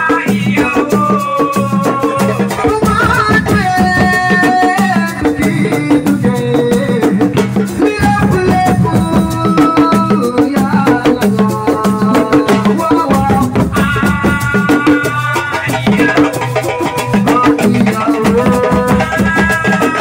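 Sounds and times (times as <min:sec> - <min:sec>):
drums and rattles beat: 0:00.0 - 0:20.0.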